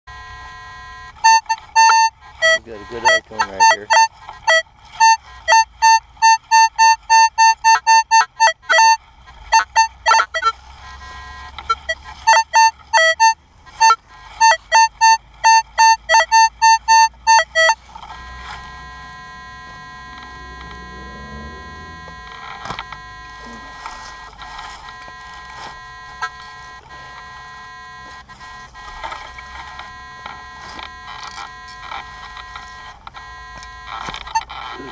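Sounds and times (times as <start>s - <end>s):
metal detector high beeps: 0.1s - 34.9s
steady hum: 0.1s - 34.9s.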